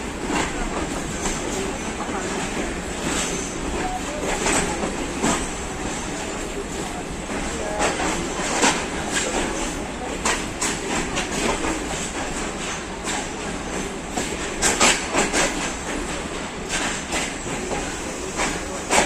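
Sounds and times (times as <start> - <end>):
train rumble: 0.0 - 19.0
train wheels clattering: 0.0 - 19.0.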